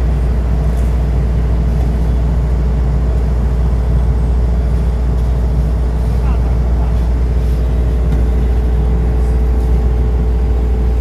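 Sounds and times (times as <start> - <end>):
heavy machinery engine rumbling: 0.0 - 11.0.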